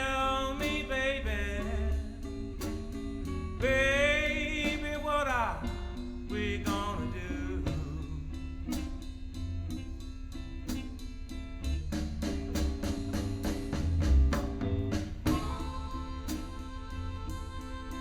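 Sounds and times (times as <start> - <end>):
blues band instrumental: 0.0 - 18.0
drum kit beat: 0.0 - 18.0.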